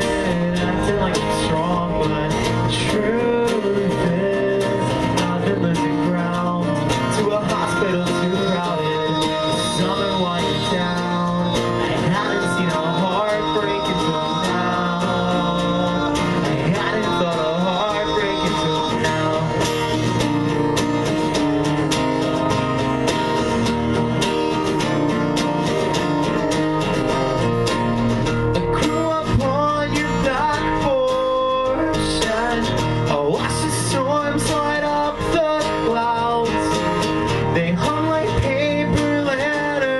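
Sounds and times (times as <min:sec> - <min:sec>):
person singing: 0:00.0 - 0:21.1, 0:28.6 - 0:39.9
band playing live: 0:00.0 - 0:39.9
guitar: 0:00.0 - 0:39.9.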